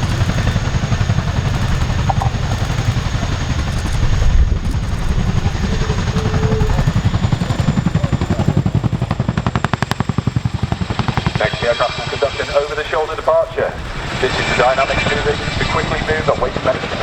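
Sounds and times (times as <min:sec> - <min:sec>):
helicopter rotor blades thudding: 0:00.0 - 0:17.0
turbine whine: 0:00.0 - 0:17.0.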